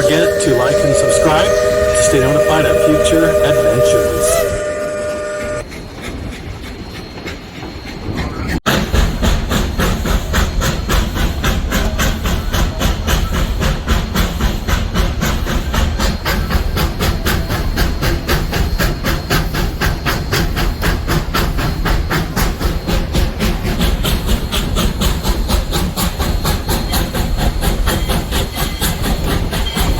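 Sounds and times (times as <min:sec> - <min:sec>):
steam hiss: 0:00.0 - 0:06.2, 0:08.7 - 0:29.9
steam train beats: 0:00.0 - 0:29.9.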